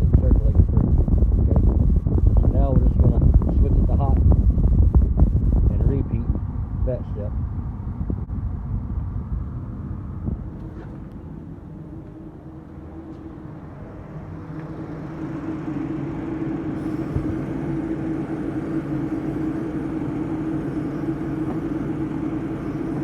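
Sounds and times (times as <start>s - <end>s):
car ac blower humming: 0.0s - 23.0s.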